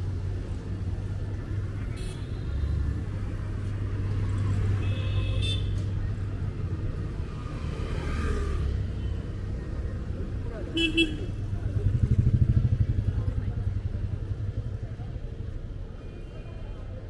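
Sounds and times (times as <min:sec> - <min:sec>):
city road traffic rumble: 0:00.0 - 0:17.0.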